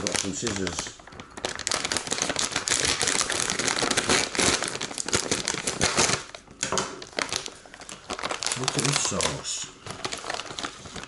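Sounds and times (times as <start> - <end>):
foil plastic bag crinkling: 0.0 - 11.0.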